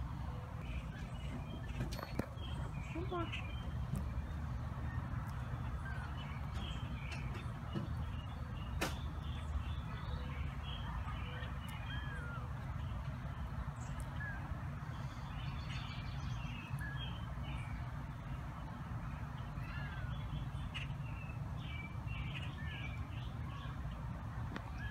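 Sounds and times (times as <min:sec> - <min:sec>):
bird chirps and calls: 0:00.6 - 0:18.0, 0:19.3 - 0:23.8.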